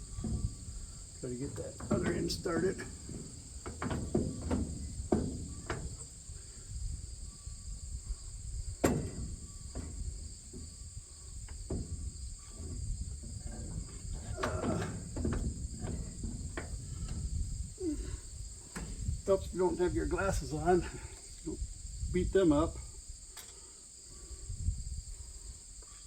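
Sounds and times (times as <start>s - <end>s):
metal knocks and clunks: 0.0s - 21.6s
fan low rumble: 0.0s - 23.3s
high insect buzz: 0.0s - 26.0s.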